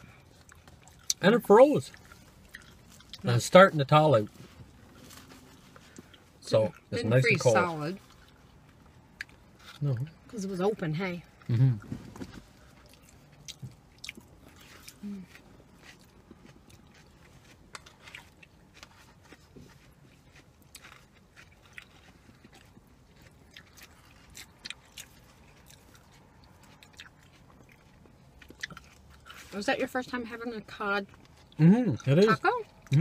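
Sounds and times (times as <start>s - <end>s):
people chewing food: 0.0s - 33.0s.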